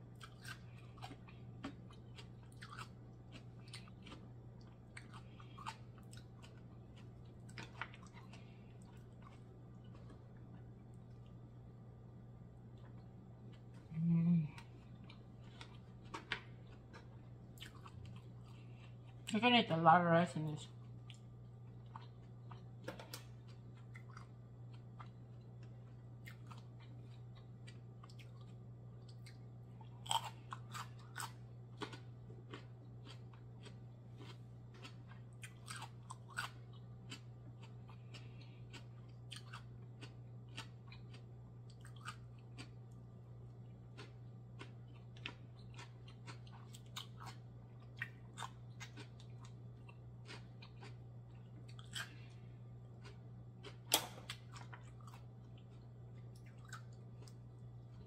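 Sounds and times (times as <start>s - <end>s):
chewing with crisp crunches: 0.0s - 11.5s, 12.6s - 19.8s, 20.7s - 58.0s
steady low hum: 0.0s - 58.0s.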